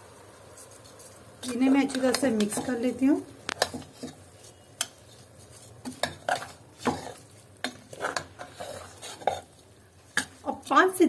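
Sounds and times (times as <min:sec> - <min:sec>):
metal spoon stirring rice in pan: 0:00.4 - 0:11.0
spoon scraping and knocking pan: 0:00.6 - 0:11.0.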